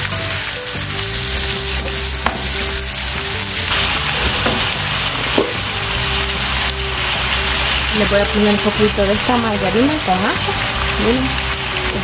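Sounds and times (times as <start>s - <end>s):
background music: 0.0s - 12.0s
vegetables sizzling in hot oil: 0.0s - 12.0s.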